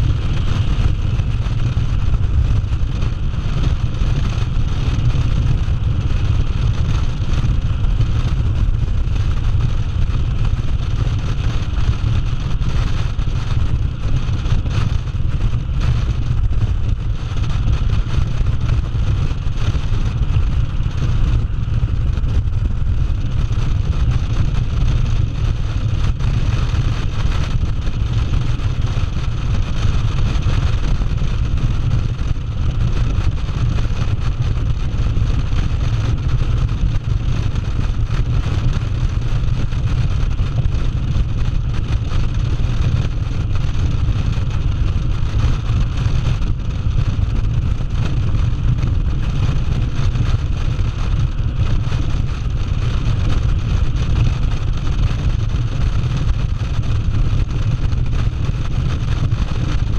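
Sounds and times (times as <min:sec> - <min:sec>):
wind buffeting microphone: 0:00.0 - 0:54.1
motorcycle engine drone: 0:00.0 - 0:59.9.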